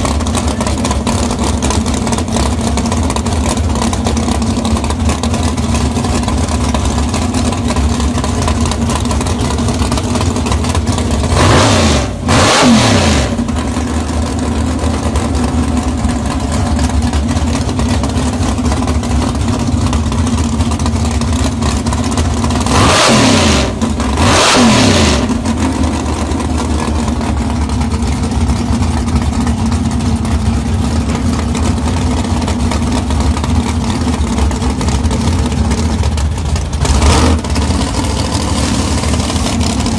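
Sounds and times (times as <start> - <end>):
race car engine idling: 0.0 - 39.9
race car engine revving: 0.0 - 39.9.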